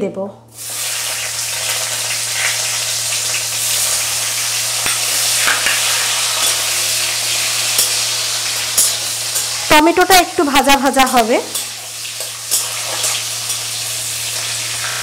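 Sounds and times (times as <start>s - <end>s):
tomatoes sizzling in oil: 0.6s - 15.0s.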